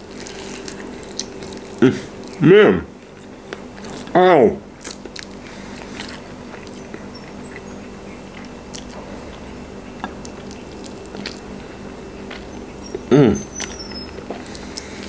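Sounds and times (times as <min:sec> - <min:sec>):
person chewing fried chicken: 0:00.0 - 0:02.4, 0:03.0 - 0:04.1, 0:04.7 - 0:15.0
low steady hum: 0:00.0 - 0:15.0.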